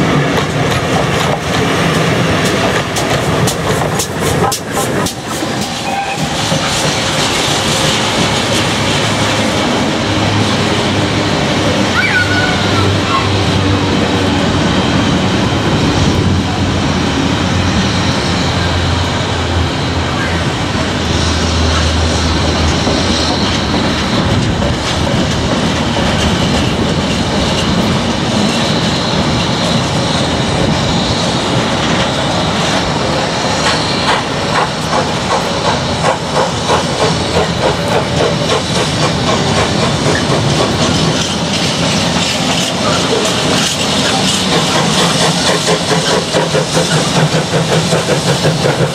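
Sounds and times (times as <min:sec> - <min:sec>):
rhythmic locomotive beats: 0:00.0 - 0:48.9
steam hissing: 0:00.0 - 0:48.9
steam locomotive working: 0:00.0 - 0:48.9.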